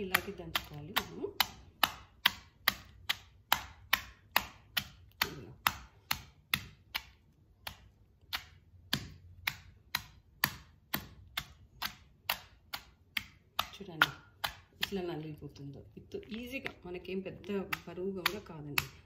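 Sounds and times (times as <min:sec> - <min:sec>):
pestle pounding in stone mortar: 0:00.0 - 0:19.0.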